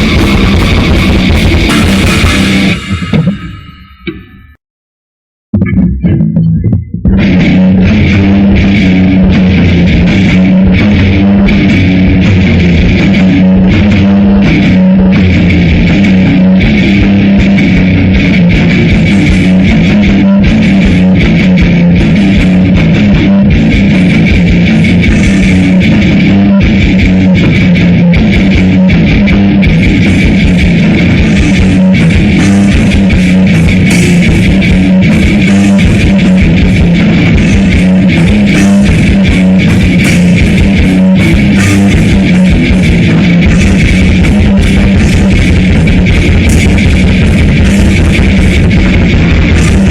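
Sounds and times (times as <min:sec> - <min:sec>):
drum kit: 0:00.0 - 0:04.3, 0:05.5 - 0:49.9
bass guitar: 0:00.0 - 0:04.6, 0:05.5 - 0:49.9
distorted electric guitars: 0:00.0 - 0:04.6, 0:05.5 - 0:49.9.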